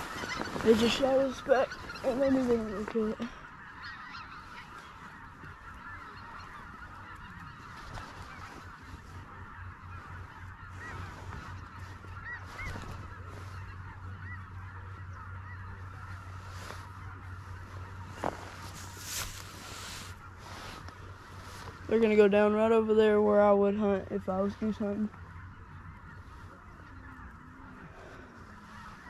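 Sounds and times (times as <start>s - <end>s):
flock of geese honking: 0.0s - 29.0s.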